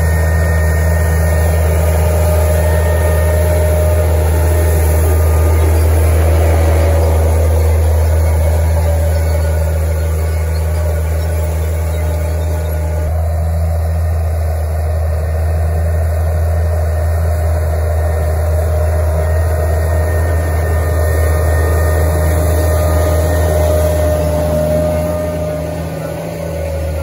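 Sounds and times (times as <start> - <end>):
faint whine: 0.0 - 27.0
tractor diesel engine droning: 0.0 - 27.0.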